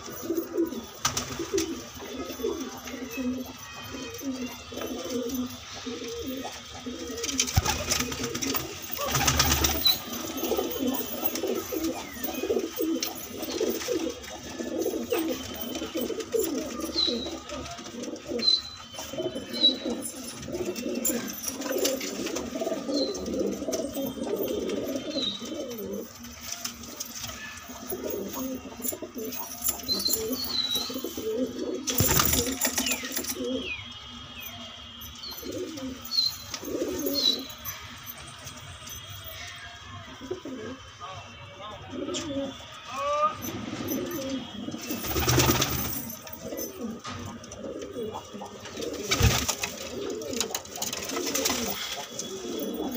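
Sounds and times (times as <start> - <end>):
pigeons cooing: 0.0 - 39.1, 40.1 - 41.0, 41.9 - 52.9.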